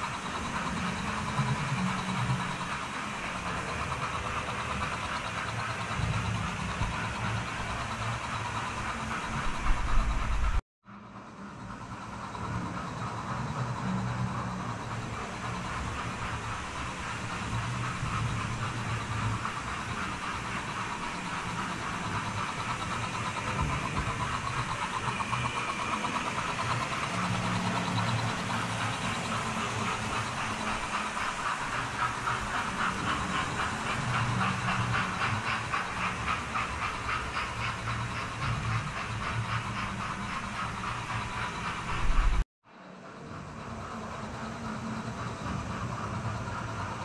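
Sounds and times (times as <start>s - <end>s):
wheels clattering on track: 0.0s - 10.6s, 11.6s - 42.4s.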